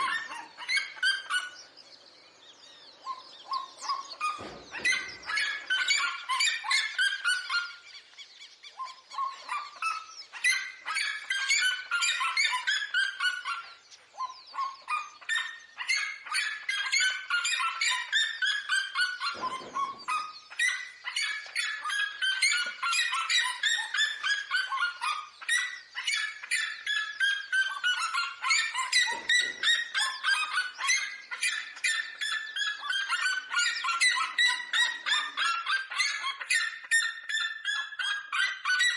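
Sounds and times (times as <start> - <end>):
birds yelping calls: 0.0 - 38.9.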